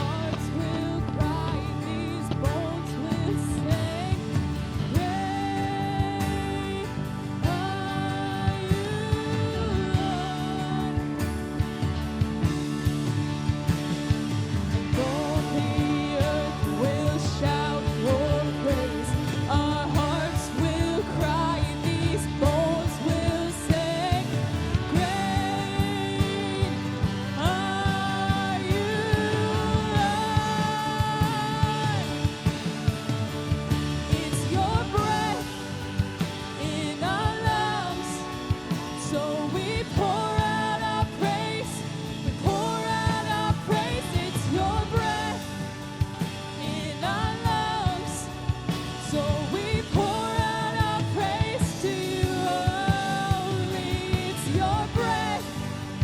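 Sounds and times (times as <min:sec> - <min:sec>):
worship band playing: 0:00.0 - 0:56.0.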